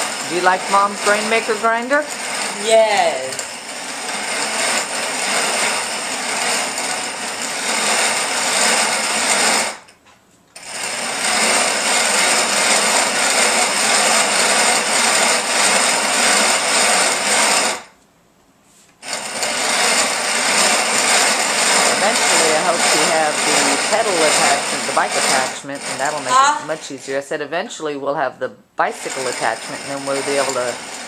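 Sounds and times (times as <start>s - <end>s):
grain mill grinding: 0.0s - 9.9s, 10.6s - 17.9s, 19.0s - 27.2s, 28.9s - 31.0s.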